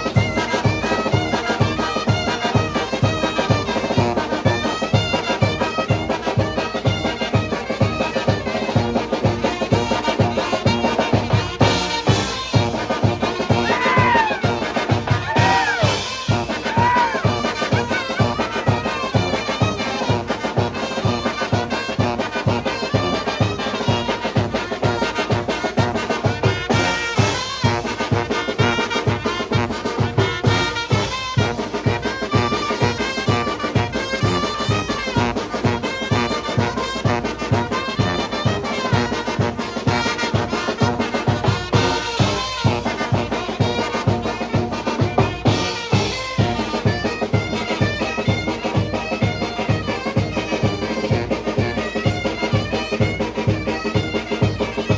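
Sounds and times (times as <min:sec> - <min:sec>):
brass band playing: 0:00.0 - 0:54.9.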